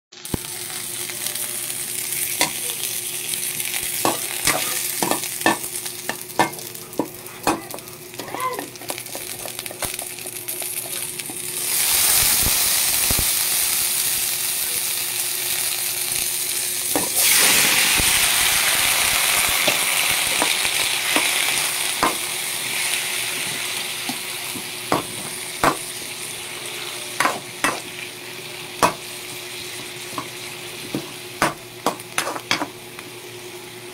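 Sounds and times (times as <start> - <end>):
food sizzling in hot oil: 0.1 - 33.9.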